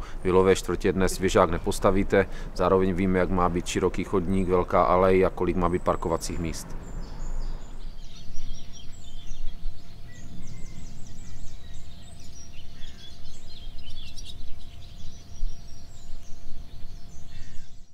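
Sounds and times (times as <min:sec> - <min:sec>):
steady low rumble: 0:00.0 - 0:17.2
small birds chirping: 0:00.0 - 0:17.9.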